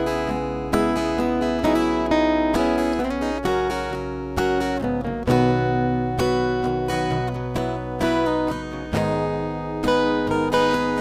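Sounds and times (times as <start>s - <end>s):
acoustic guitar playing chords: 0.0s - 11.0s.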